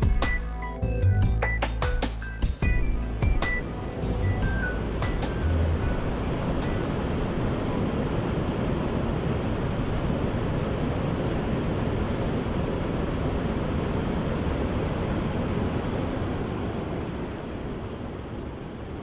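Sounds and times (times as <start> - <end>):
waterfall roaring: 3.7 - 19.0.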